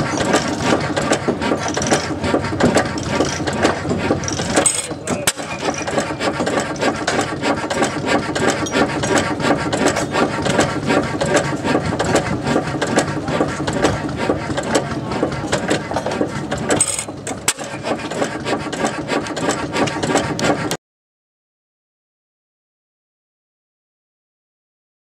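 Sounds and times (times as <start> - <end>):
stationary engine clattering: 0.0 - 20.8.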